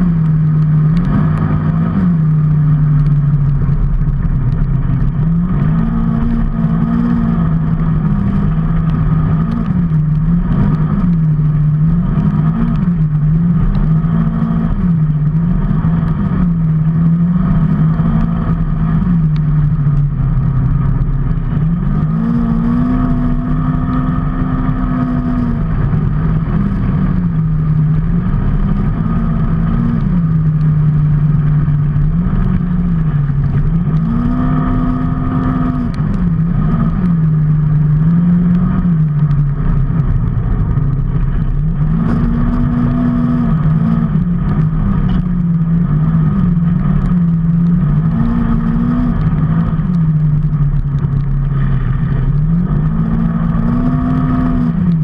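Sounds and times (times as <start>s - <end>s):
constant low rumble: 0.0s - 55.0s
vehicle engine revving: 0.0s - 55.0s.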